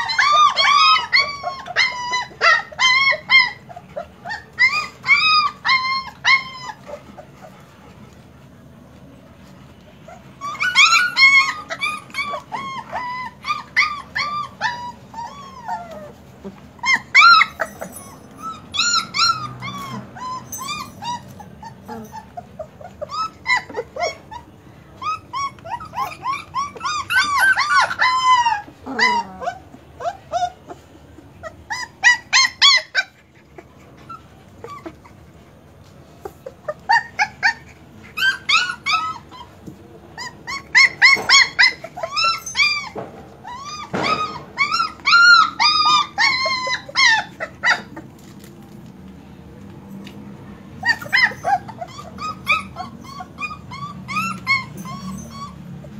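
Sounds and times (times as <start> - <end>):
puppies whining and yelping: 0.0 - 55.9.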